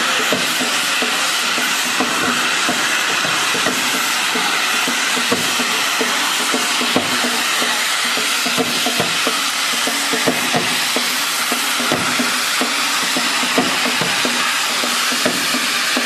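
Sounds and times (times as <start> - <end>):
fireworks rushing hiss: 0.0 - 16.0
fireworks crackles and pops: 0.1 - 16.0.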